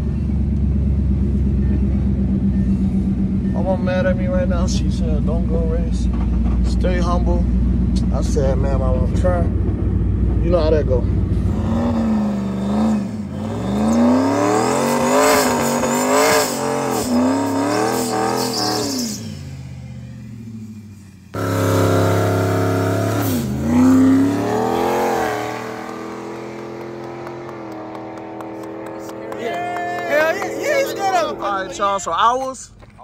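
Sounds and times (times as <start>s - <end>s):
car engine revving: 0.0s - 32.7s.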